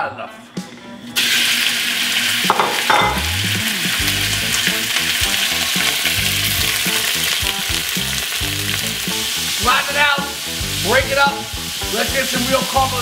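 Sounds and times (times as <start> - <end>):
meat sizzling in a pot: 1.2 - 13.0.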